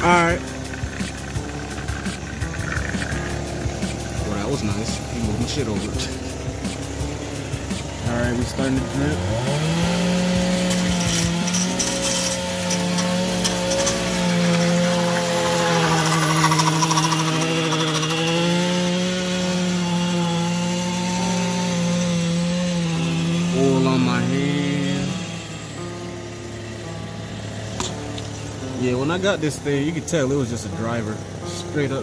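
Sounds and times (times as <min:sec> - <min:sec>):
small power tool whirring: 0:00.0 - 0:32.0.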